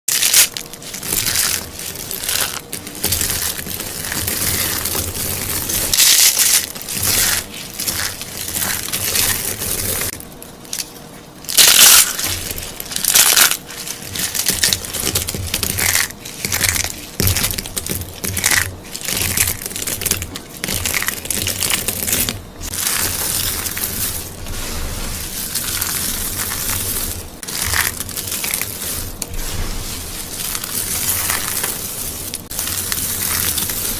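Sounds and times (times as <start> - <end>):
soap roses crunching: 0.1 - 33.9.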